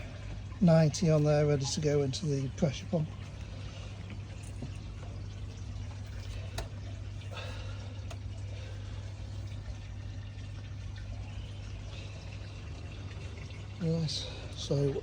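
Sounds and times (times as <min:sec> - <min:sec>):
low steady hum: 0:00.0 - 0:15.0
running pouring water: 0:00.0 - 0:15.0.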